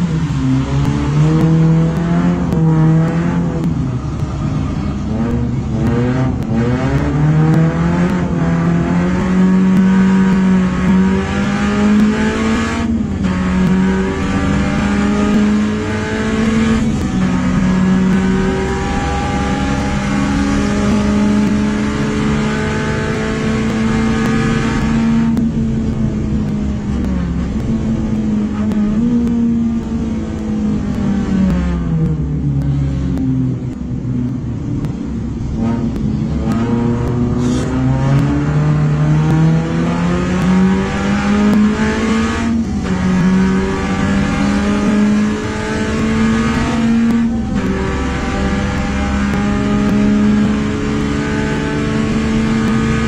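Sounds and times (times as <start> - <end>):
car engine revving high: 0.0 - 53.0.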